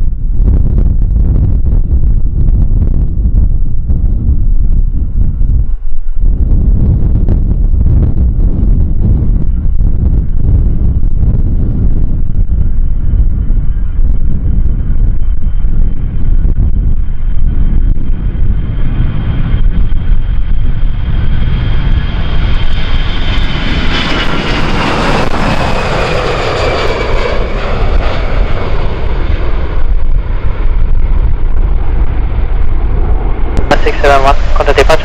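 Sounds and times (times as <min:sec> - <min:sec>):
airliner engines passing: 0:00.0 - 0:35.0
wind buffeting microphone: 0:00.0 - 0:35.0.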